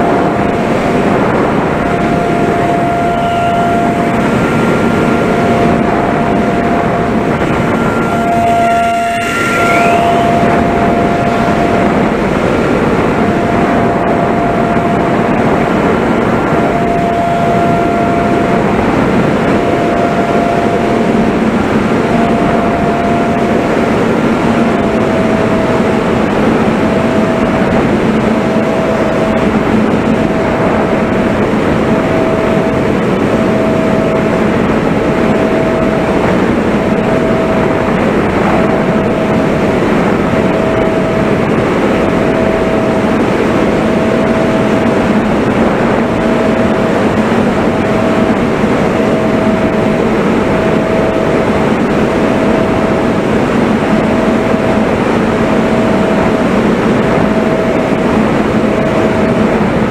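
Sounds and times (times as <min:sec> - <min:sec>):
faint pulsing hum: 0:00.0 - 0:59.9
wind rushing: 0:00.0 - 0:59.9.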